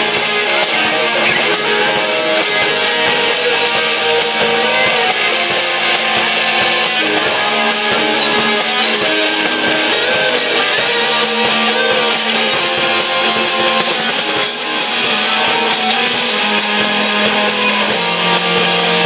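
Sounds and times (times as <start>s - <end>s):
drum kit: 0.0s - 19.0s
electric guitars strumming: 0.0s - 19.0s.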